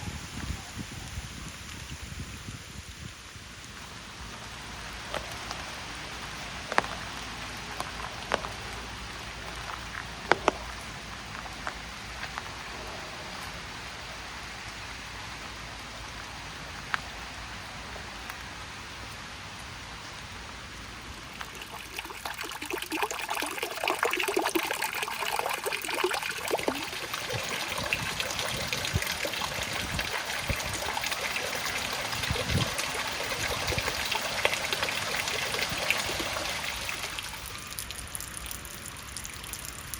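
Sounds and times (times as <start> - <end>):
running water splashing and trickling: 0.0 - 39.9
steady rain: 0.0 - 39.9
large raindrops landing: 0.2 - 39.9.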